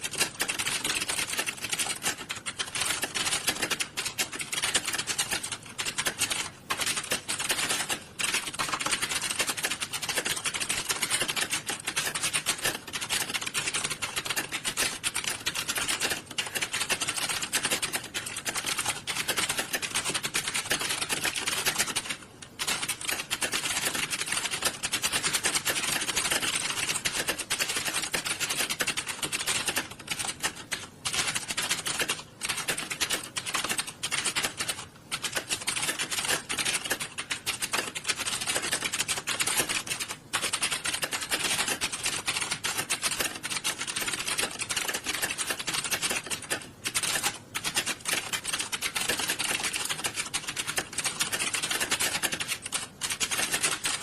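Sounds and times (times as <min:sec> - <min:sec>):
fast typing on keyboards: 0:00.0 - 0:54.0.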